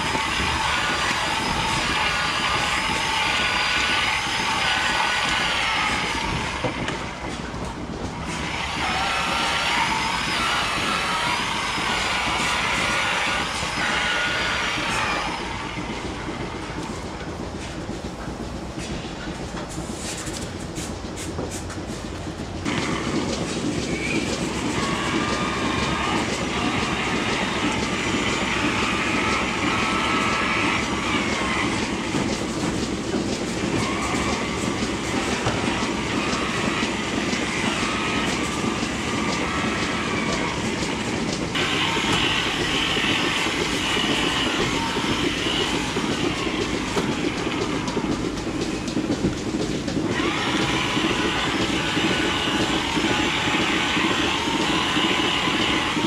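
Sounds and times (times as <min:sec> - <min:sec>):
milking machinery running: 0:00.0 - 0:56.0.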